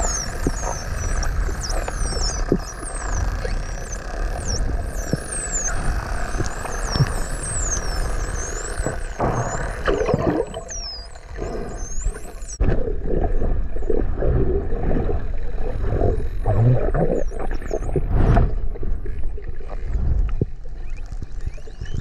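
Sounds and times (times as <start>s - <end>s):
dolphins whistling underwater: 0.0s - 18.6s
water churning: 0.0s - 21.9s.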